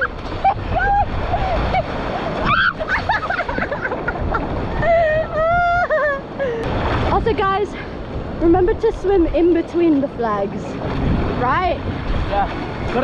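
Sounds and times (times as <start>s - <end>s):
surf: 0.0s - 13.0s
wind on microphone: 0.0s - 13.0s.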